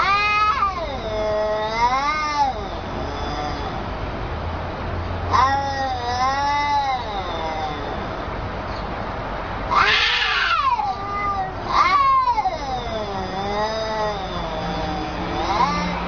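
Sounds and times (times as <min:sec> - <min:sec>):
cat harsh cries: 0:00.0 - 0:03.9, 0:05.3 - 0:08.3, 0:09.7 - 0:16.0
cats yowling: 0:00.0 - 0:03.9, 0:05.3 - 0:08.5, 0:09.6 - 0:16.0.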